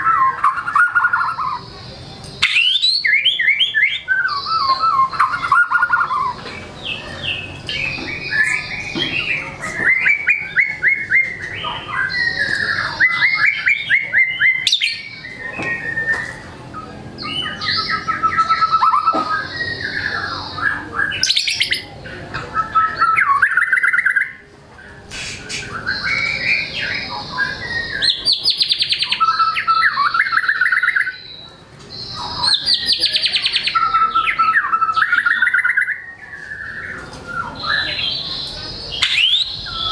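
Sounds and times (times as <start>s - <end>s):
songbird whistling and trilling: 0.0s - 24.4s, 25.2s - 39.9s.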